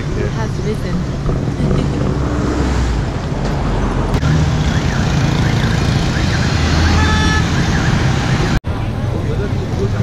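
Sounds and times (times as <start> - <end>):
street traffic with scooters: 0.0 - 10.0.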